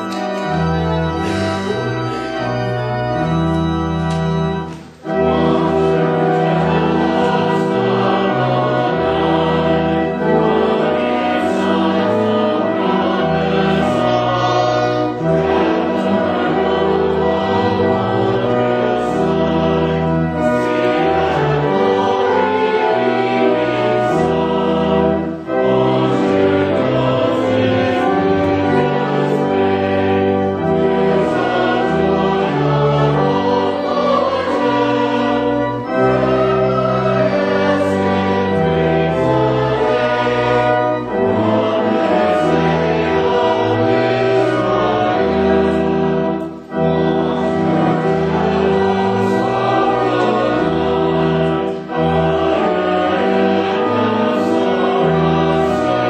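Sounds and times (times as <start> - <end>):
choir singing: 0.0 - 56.0
church organ chords: 0.0 - 56.0.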